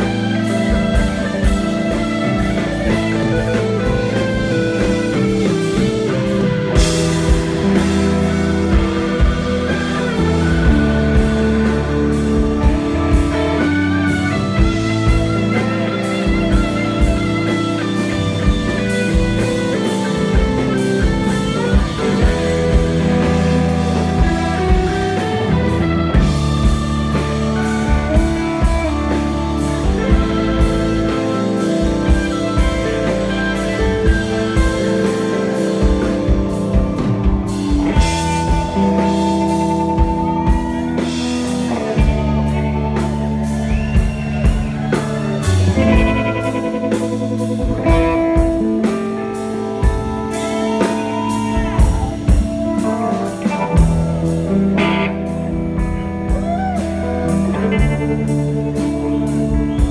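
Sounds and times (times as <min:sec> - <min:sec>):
electric guitar lead lines: 0:00.0 - 0:59.9
live rock band: 0:00.0 - 0:59.9.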